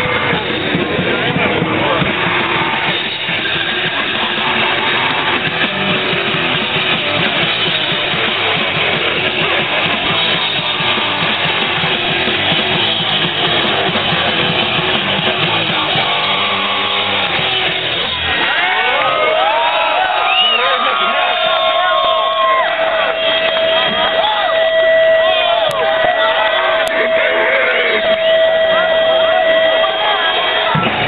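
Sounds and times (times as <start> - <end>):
bass: 0.0 - 31.0
distorted electric guitar: 0.0 - 31.0
drums: 0.0 - 31.0.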